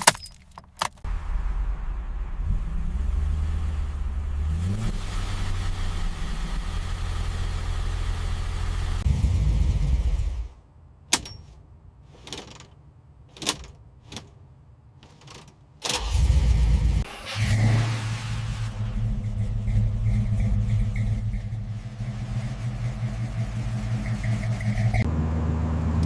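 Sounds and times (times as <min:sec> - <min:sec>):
car engine starting and running: 0:00.0 - 0:11.4, 0:12.2 - 0:26.0.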